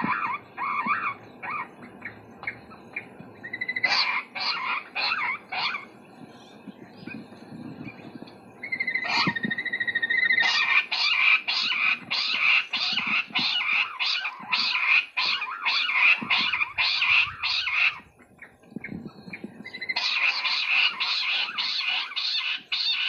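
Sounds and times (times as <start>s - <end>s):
quail calling: 0.0s - 5.9s, 8.6s - 23.0s.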